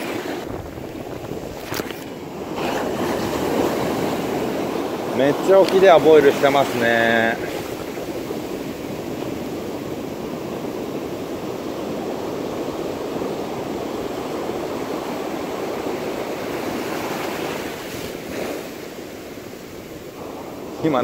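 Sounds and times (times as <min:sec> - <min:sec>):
ocean waves washing onto beach: 0:00.0 - 0:21.0.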